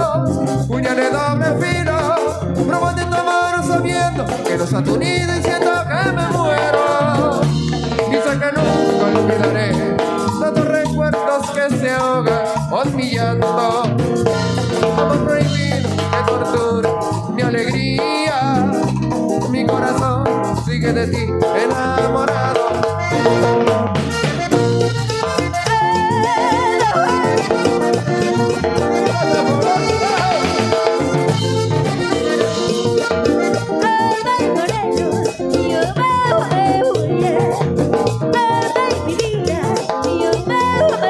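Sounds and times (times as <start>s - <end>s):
accordion: 0.0s - 41.0s
electric guitar: 0.0s - 41.0s
timbales and congas: 0.0s - 41.0s.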